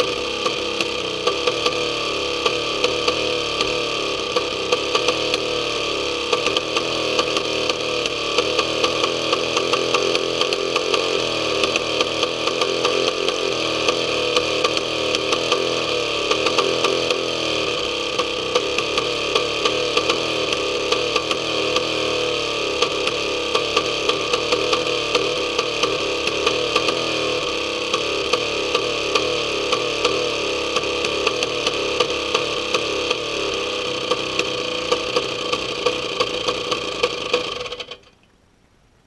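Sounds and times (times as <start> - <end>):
engine droning: 0.0 - 38.4.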